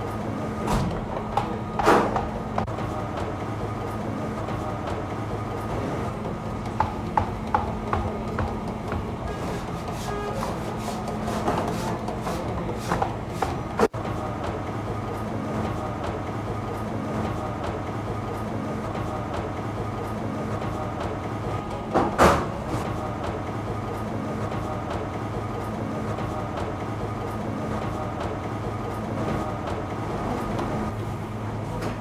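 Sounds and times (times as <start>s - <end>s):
bakery machinery humming: 0.0s - 32.0s.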